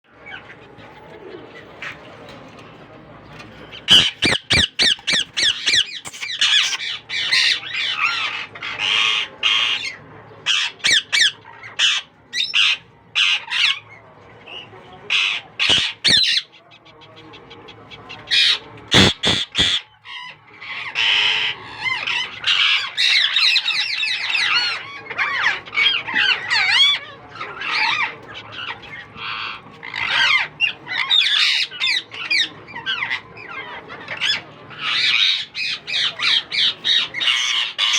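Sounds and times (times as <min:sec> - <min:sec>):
parakeets squawking and chattering: 0:00.1 - 0:37.9.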